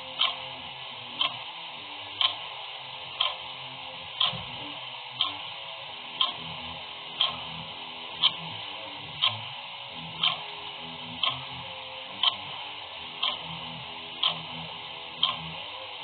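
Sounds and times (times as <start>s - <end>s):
clock ticking: 0.0s - 16.0s.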